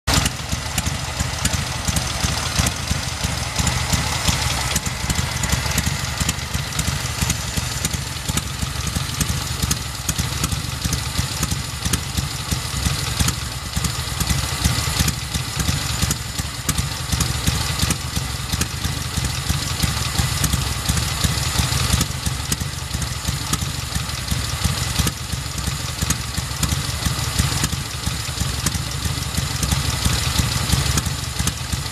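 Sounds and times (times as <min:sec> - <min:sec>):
motorcycle engine idling: 0:00.1 - 0:31.9.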